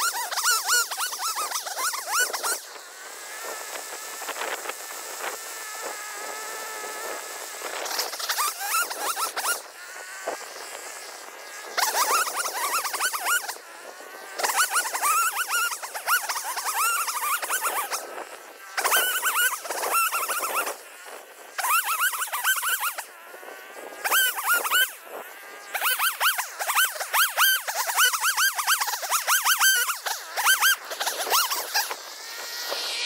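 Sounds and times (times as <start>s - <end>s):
chainsaw revving and idling: 0.0s - 33.0s.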